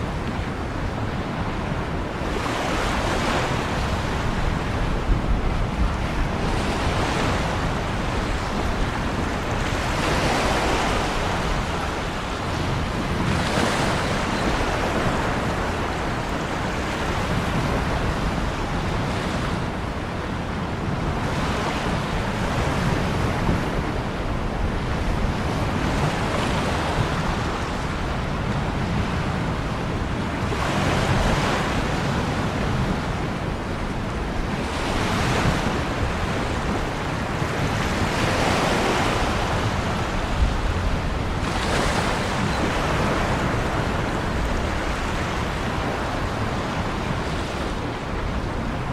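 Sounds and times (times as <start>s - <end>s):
continuous rush of water: 0.0s - 48.9s
ocean waves breaking: 0.0s - 48.9s.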